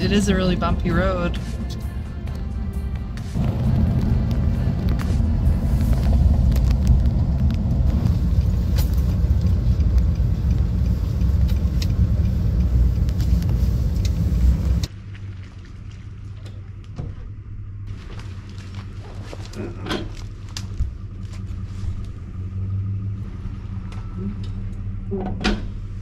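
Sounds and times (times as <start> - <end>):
low hum: 0.0 - 26.0
road and engine rumble: 0.0 - 26.0.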